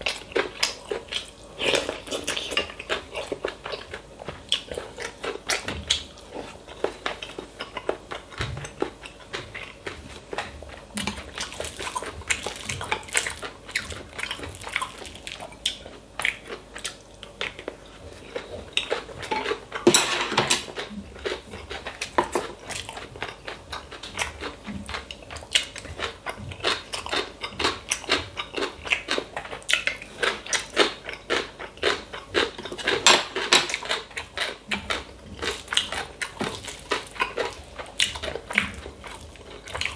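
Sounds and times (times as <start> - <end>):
person chewing and biting: 0.0 - 20.0, 20.6 - 39.9.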